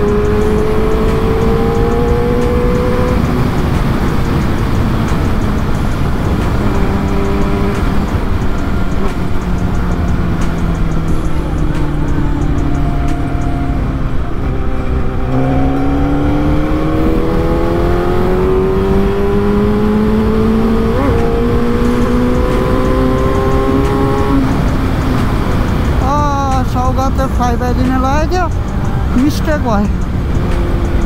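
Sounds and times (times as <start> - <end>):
motorcycle engine accelerating: 0.0 - 26.6
wind rumble: 0.0 - 31.0.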